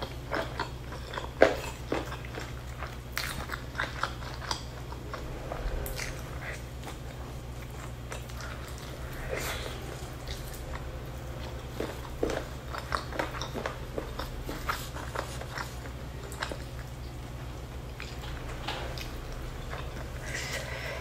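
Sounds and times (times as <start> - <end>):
person chewing chicken: 0.0 - 21.0
steady low hum: 0.0 - 21.0.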